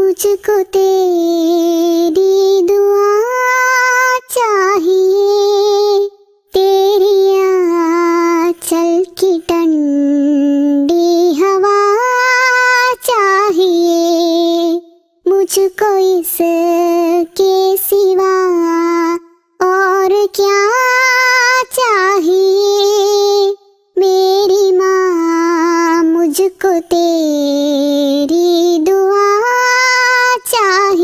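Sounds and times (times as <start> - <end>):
child singing: 0.0 - 31.0.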